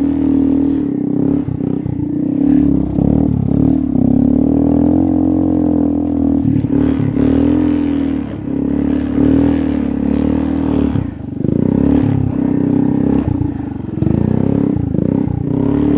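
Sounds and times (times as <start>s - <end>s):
clatter and scraping over bumps: 0.0s - 15.9s
small off-road engine revving: 0.0s - 15.9s.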